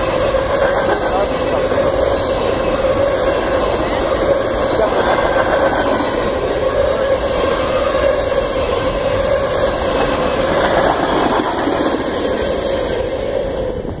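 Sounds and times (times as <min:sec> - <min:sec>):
freight train wheels rumbling: 0:00.0 - 0:14.0
wheel whine: 0:00.0 - 0:14.0.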